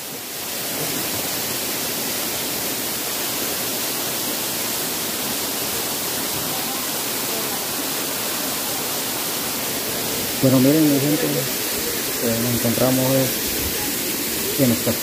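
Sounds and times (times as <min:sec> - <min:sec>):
waterfall and stream rushing: 0:00.0 - 0:15.0.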